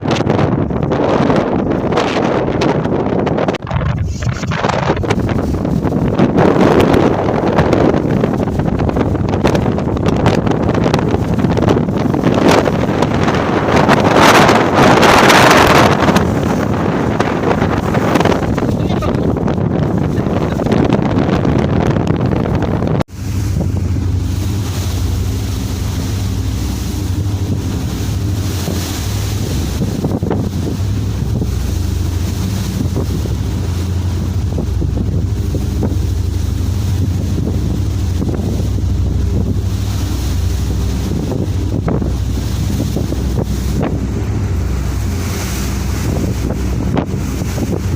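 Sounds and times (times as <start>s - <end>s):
ship engine humming: 0.0s - 47.9s
waves washing: 0.0s - 47.9s
wind buffeting microphone: 0.0s - 47.9s.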